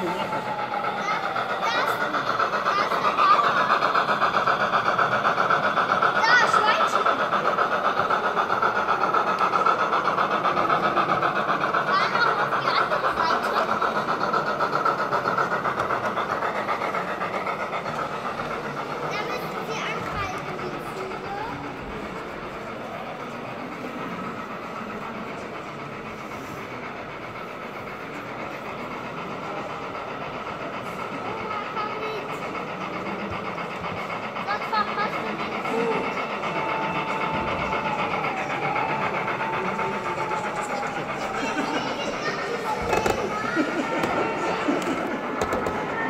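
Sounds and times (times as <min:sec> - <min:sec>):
hall background hum: 0:00.0 - 0:46.0
model steam locomotive running: 0:00.0 - 0:46.0.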